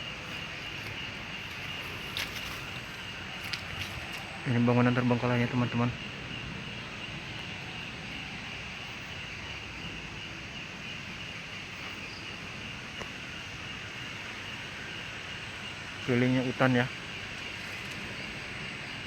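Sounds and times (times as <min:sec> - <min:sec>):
crickets and insects chirping: 0:00.0 - 0:19.0.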